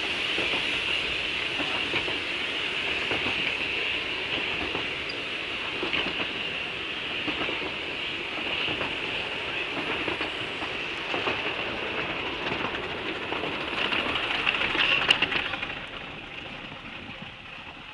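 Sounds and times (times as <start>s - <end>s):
train carriages rolling past: 0.0s - 17.9s
wheels clicking over rail joints: 1.4s - 17.9s.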